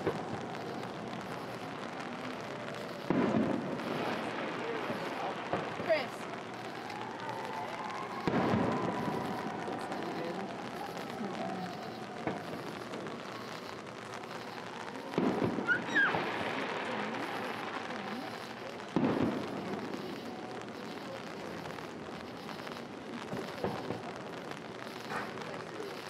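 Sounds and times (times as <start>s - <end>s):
faint firework pops: 0.0s - 26.0s
fireworks bursting: 0.0s - 26.0s
steady hiss: 0.0s - 26.0s.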